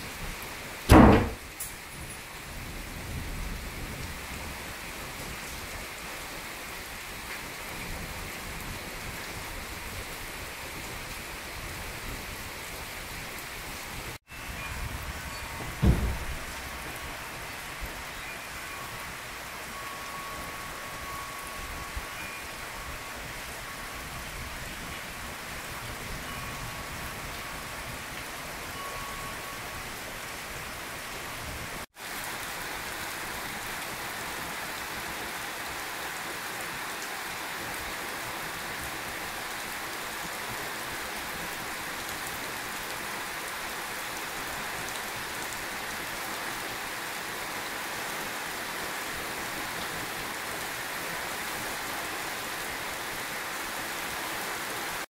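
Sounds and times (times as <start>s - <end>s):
rain falling on vegetation: 0.0s - 55.0s.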